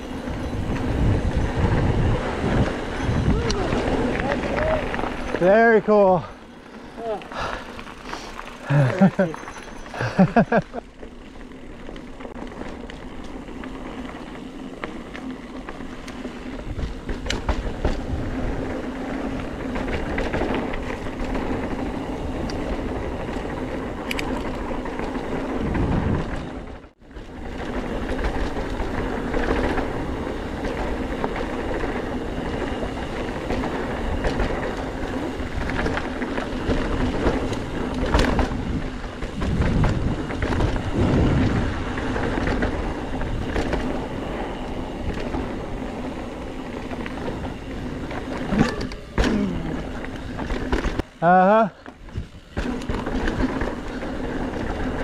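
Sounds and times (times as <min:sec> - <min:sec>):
bike clicks and rattles: 0:00.0 - 0:55.0
bike tyres rumbling on dirt: 0:00.0 - 0:55.0.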